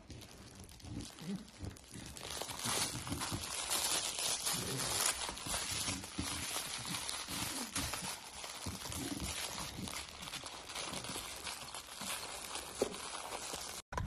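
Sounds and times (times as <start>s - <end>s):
dogs tearing cardboard and paper: 0.0s - 13.8s.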